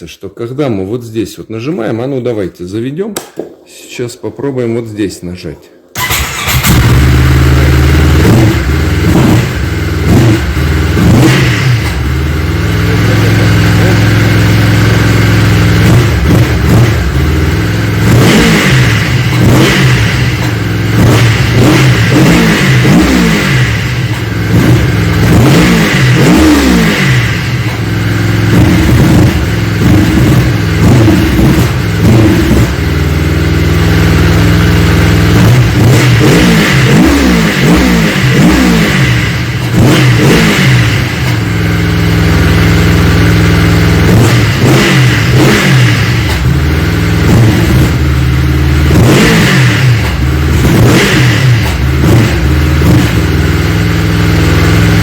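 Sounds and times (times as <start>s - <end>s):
snowmobile engine idling and revving: 6.0s - 55.0s.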